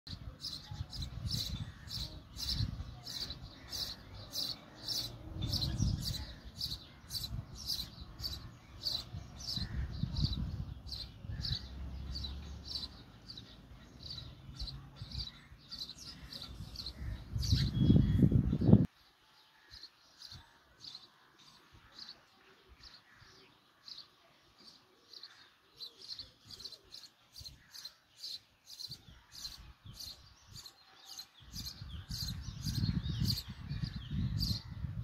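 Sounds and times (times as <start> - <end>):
small bird chirping: 0.1 - 18.9, 23.9 - 34.8.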